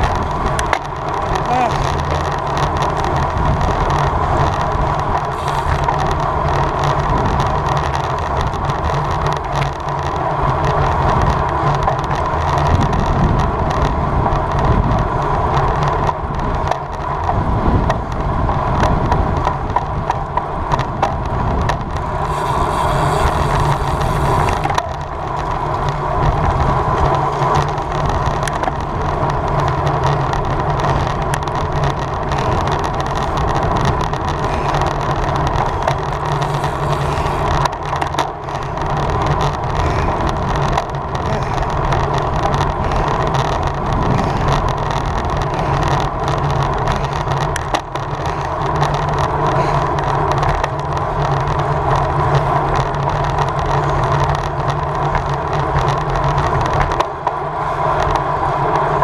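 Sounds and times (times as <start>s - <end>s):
bike clicks and rattles: 0.0s - 59.0s
tyre noise on pavement: 0.0s - 59.0s
wind rushing over microphone: 0.0s - 59.0s.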